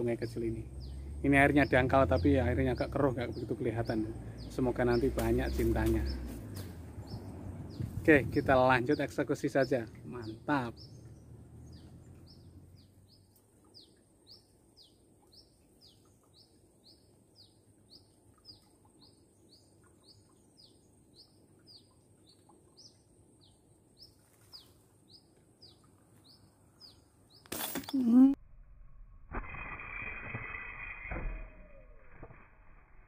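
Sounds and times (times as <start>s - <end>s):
bird chirping: 0.0s - 28.4s.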